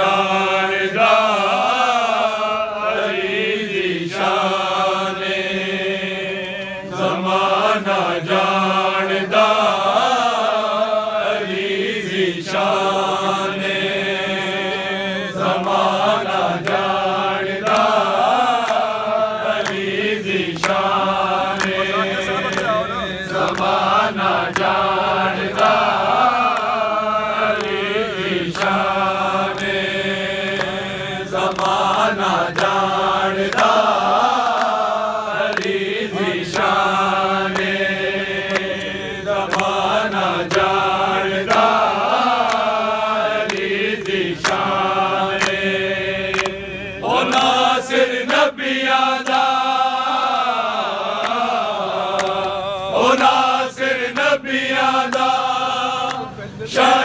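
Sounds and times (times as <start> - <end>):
men chanting together: 0.0 - 57.0.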